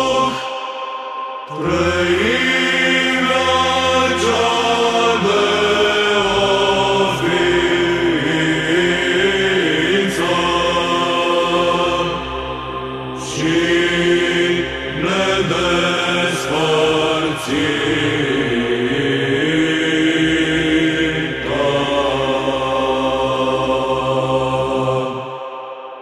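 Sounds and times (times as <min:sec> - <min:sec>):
voices chanting a melody: 0:00.0 - 0:26.0.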